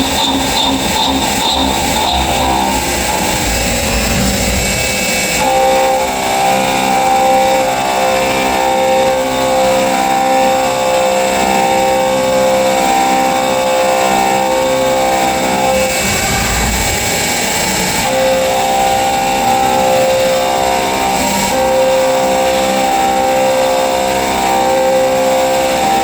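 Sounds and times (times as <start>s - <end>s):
milling machine cutting whine: 0.0s - 26.0s.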